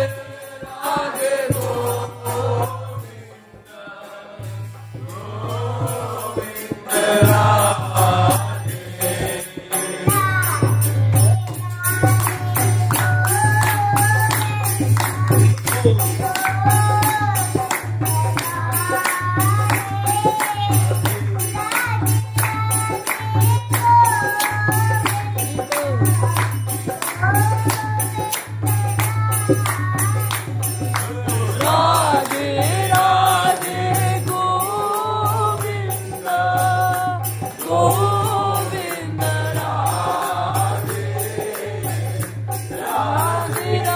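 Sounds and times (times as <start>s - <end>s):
jingling hand percussion: 0.0s - 43.9s
voices singing a chant: 0.0s - 43.9s.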